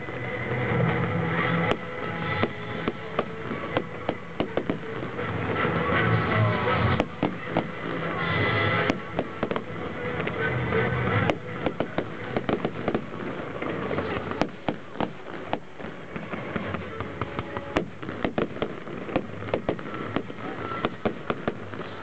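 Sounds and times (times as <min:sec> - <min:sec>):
crackling pops: 0:00.0 - 0:05.8, 0:06.9 - 0:22.0
fireworks bursting: 0:00.0 - 0:22.0.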